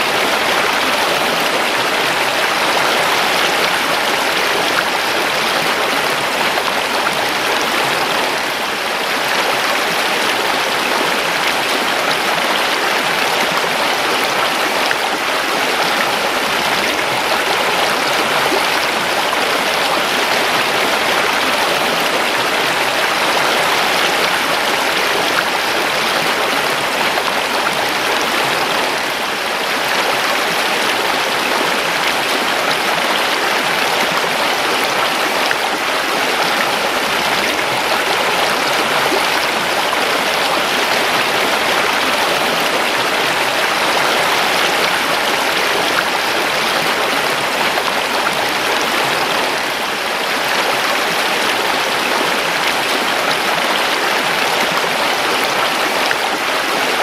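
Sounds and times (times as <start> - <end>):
creek babbling over stones: 0.0 - 57.0.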